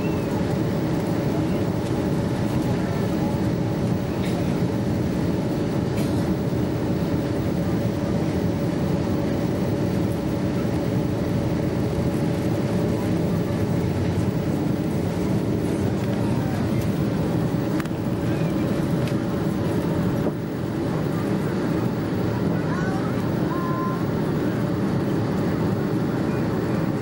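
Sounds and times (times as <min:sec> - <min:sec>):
jet engines roaring in cabin: 0:00.0 - 0:27.0
mid-pitched engine hum: 0:00.0 - 0:27.0.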